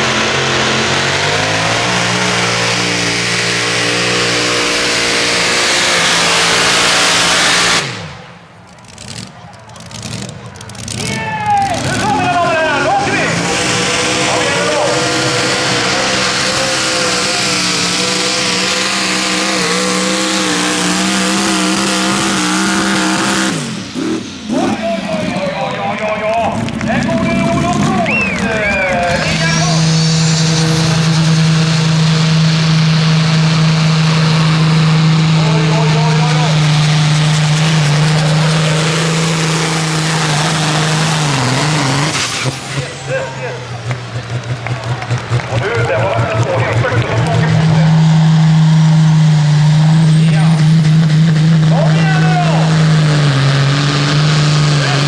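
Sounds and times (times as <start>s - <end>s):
tractor engine at high revs: 0.0s - 55.0s.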